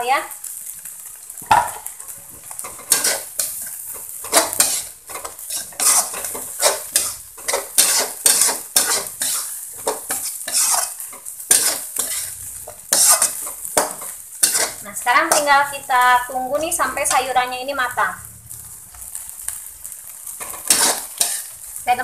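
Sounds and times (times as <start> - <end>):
vegetables sizzling: 0.0 - 22.0
metal spatula scraping wok: 2.5 - 19.3, 20.2 - 22.0.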